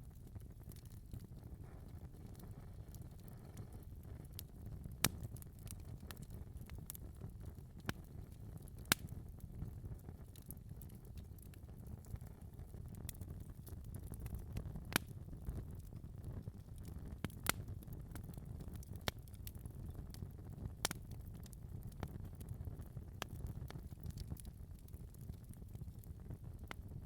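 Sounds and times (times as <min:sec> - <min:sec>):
wood fire crackling: 0:00.0 - 0:27.0
sharp pops from fire: 0:00.5 - 0:12.4, 0:13.0 - 0:20.2, 0:20.8 - 0:26.9.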